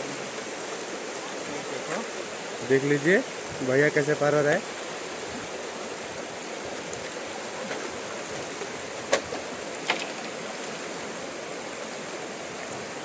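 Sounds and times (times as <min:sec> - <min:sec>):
river current rushing: 0:00.0 - 0:13.0.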